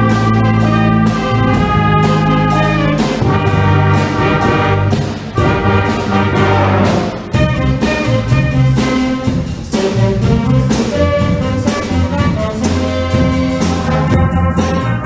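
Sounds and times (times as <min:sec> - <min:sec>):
brass and woodwinds chords: 0:00.0 - 0:15.0
percussion beat: 0:00.0 - 0:15.0.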